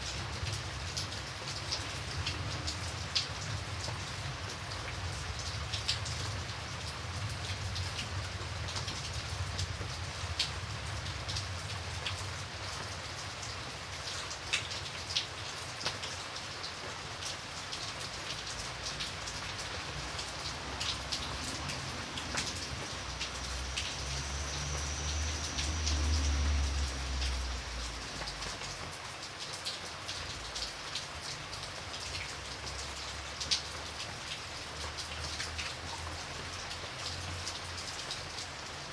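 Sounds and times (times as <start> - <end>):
light rain falling: 0.0 - 38.9
raindrops ticking: 0.0 - 38.9.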